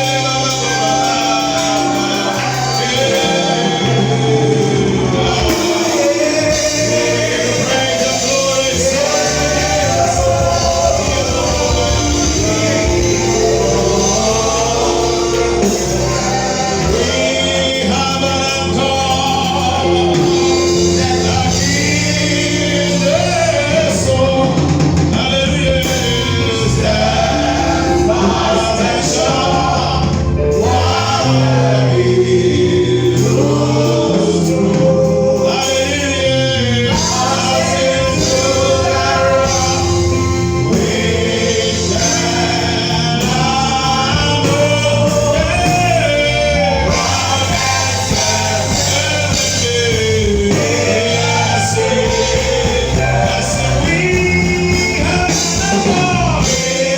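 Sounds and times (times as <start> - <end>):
gospel singers with band: 0.0 - 56.9.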